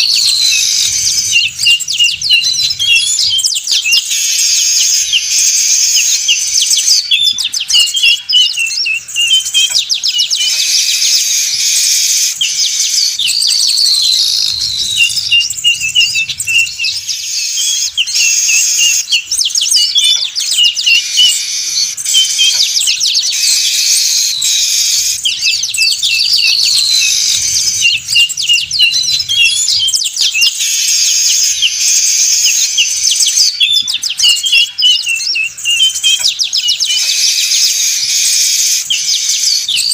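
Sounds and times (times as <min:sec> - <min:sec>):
weaver birds chirping chorus: 0:00.0 - 0:39.9.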